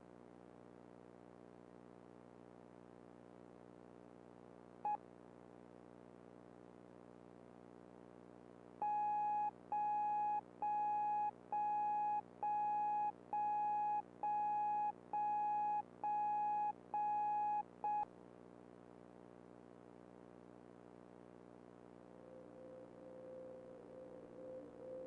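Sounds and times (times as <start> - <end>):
faint low hum: 0.2 - 25.0.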